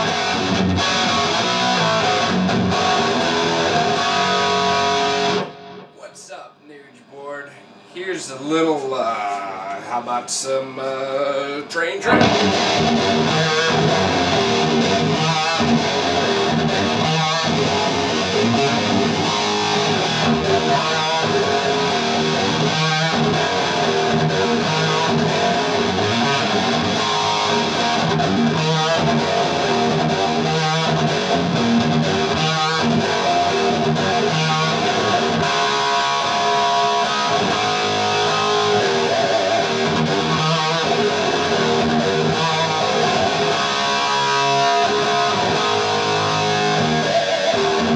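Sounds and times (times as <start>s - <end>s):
electric guitar through amplifier: 0.0s - 6.4s, 7.5s - 47.9s.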